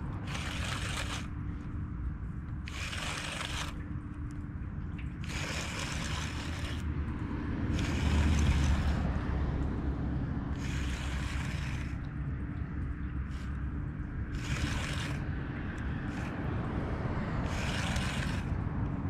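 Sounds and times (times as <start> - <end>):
fishing reel gears whirring: 0.0 - 4.4, 5.0 - 9.2, 10.5 - 16.6, 17.4 - 18.6
wind rumble on microphone: 0.0 - 19.0.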